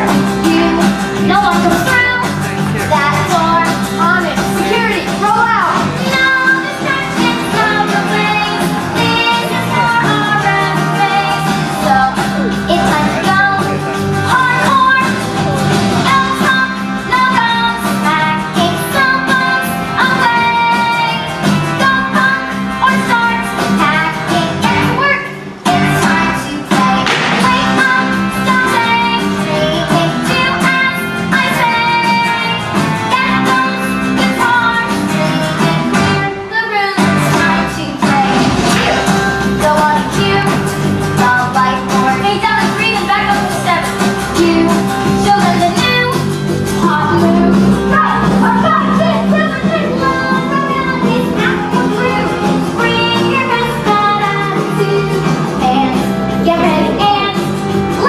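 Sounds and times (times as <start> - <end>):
song with singing: 0.0 - 58.0.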